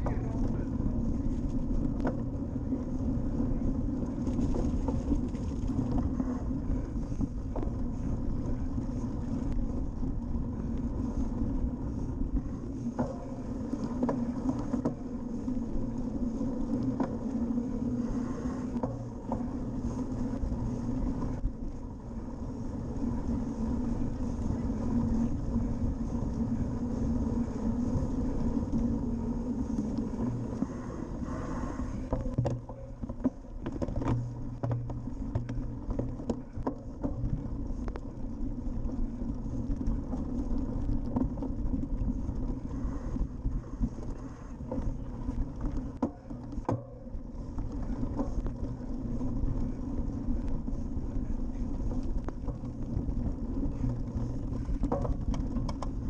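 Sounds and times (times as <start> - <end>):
tyres and wind rumble: 0.0 - 56.0.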